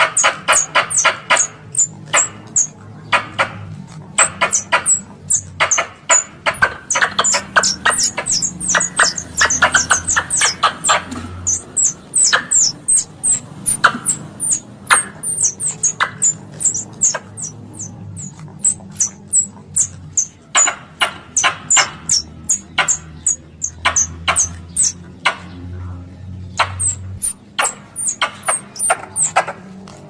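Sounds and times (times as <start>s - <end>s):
squirrel chirping calls: 0.0s - 29.7s.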